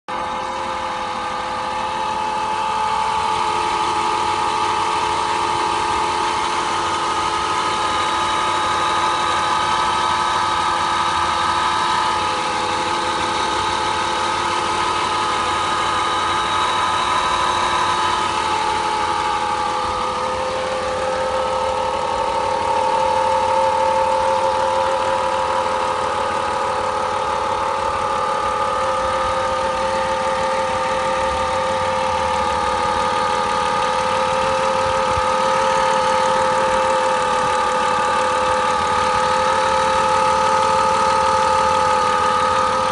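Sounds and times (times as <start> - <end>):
car engine idling: 0.1 - 42.9.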